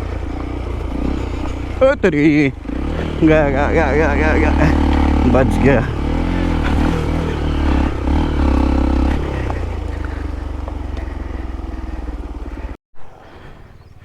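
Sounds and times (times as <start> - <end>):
motorcycle engine revving and idling: 0.0 - 12.8.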